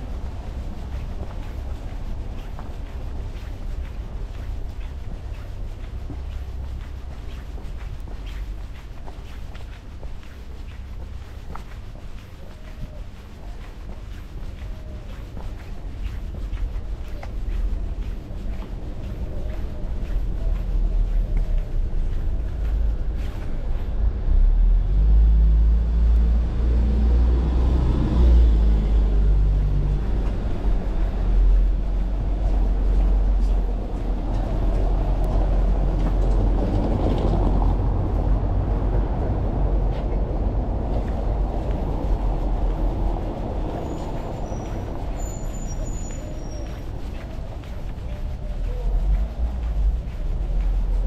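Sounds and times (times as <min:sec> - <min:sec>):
large vehicle engine running: 0:00.0 - 0:51.0
traffic noise: 0:00.0 - 0:51.0.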